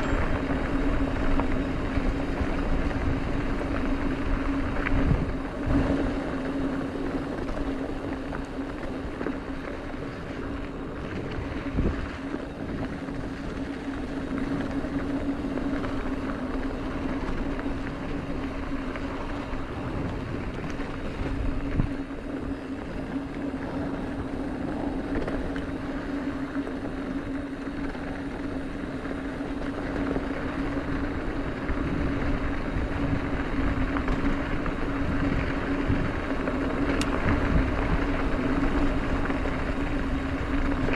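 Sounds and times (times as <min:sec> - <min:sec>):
bike rattling: 0:00.0 - 0:40.9
low buzzing hum: 0:00.0 - 0:40.9
tyres rolling on gravel: 0:00.0 - 0:40.9.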